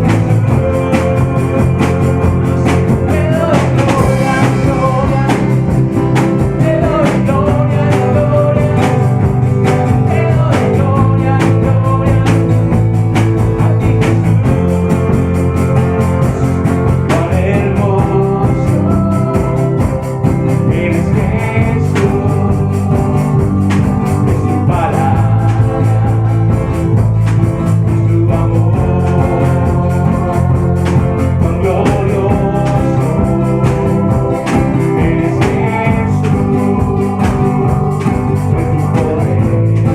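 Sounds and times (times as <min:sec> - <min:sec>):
band playing worship song: 0:00.0 - 0:39.9.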